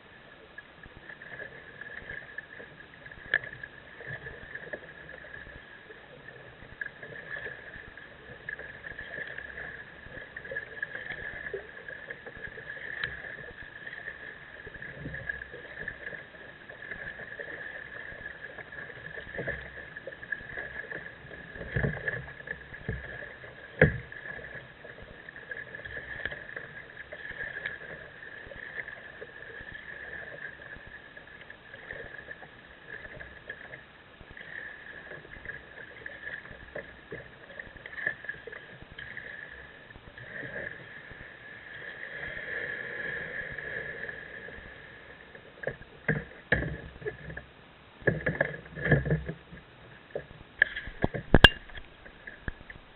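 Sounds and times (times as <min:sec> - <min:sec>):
paddle splashing in water: 0:00.9 - 0:52.9.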